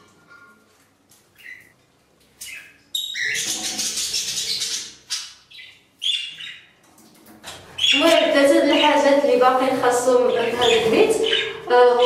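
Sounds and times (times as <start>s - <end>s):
parrots chirping and chattering: 1.2s - 12.0s.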